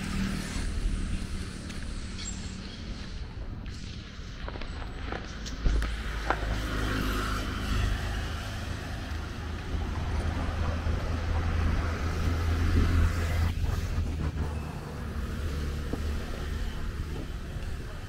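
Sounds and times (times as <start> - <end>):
vehicles driving past: 0.0 - 18.0.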